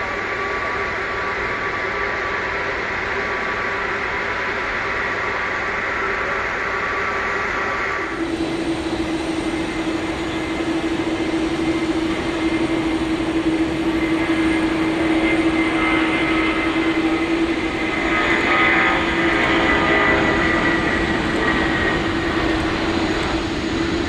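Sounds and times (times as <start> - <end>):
high jet whine: 0.0 - 24.0
jet engine roar: 0.0 - 24.0.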